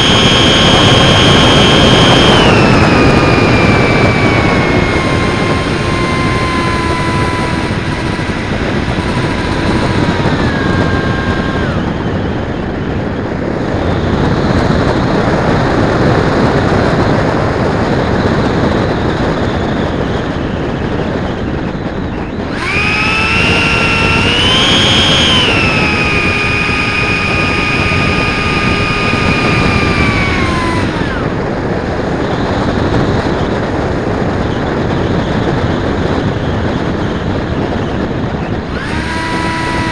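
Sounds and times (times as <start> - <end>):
model airplane motor whine: 0.0 - 39.9
wind on microphone: 0.0 - 39.9.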